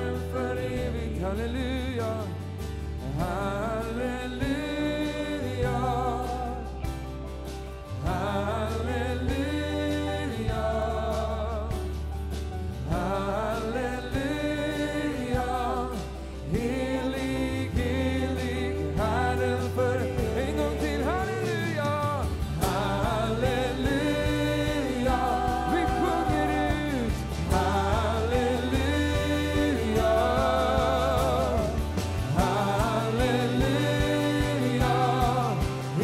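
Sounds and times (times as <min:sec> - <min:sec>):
person singing with vibrato: 0:00.0 - 0:12.2, 0:12.8 - 0:36.0
sustained low bass notes: 0:00.0 - 0:36.0.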